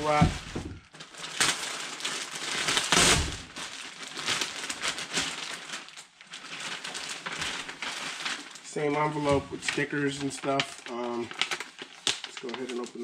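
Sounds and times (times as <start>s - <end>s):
bubble wrap and plastic crinkling: 0.0s - 13.0s.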